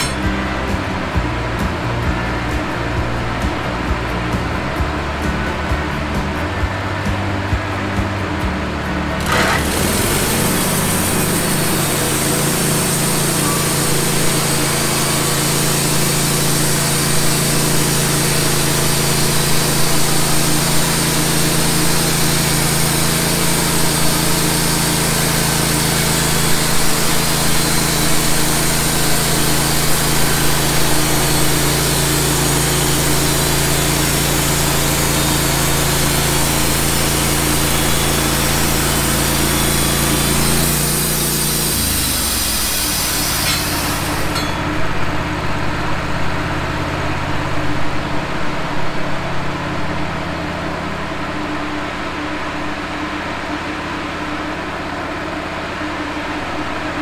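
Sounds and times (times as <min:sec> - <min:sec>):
band sawmill cutting log: 0:00.0 - 0:49.7.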